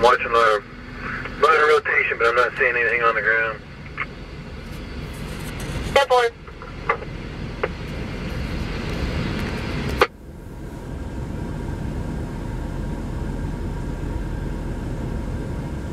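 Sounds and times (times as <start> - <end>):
low rumble: 0.0 - 15.9.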